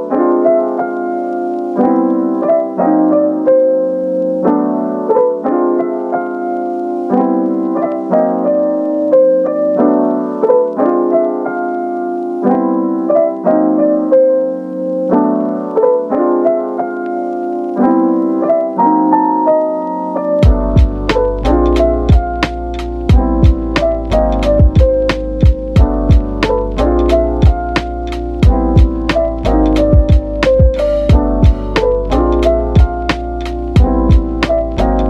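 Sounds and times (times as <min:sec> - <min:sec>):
mellow electric piano melody: 0:00.0 - 0:35.0.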